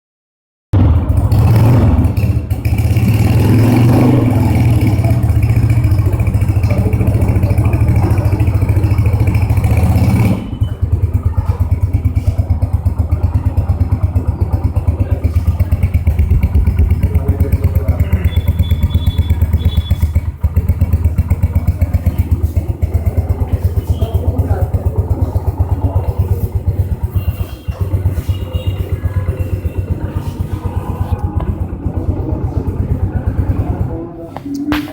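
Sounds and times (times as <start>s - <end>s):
motorcycle engine idling: 0.8s - 34.7s.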